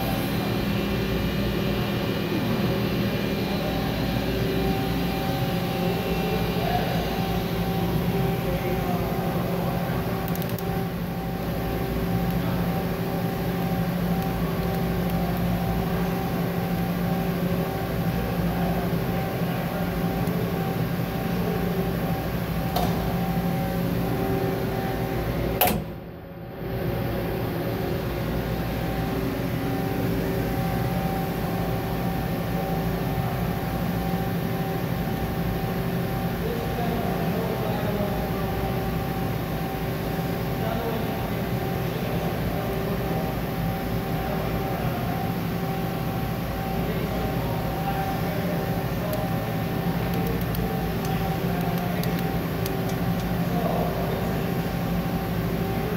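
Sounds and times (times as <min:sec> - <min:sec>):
machine hum: 0:00.0 - 0:55.9.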